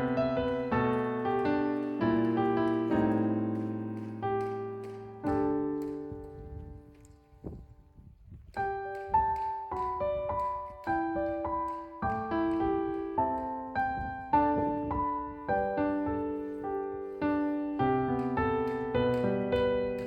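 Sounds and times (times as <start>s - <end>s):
slow piano music: 0.0s - 7.6s, 8.6s - 20.0s.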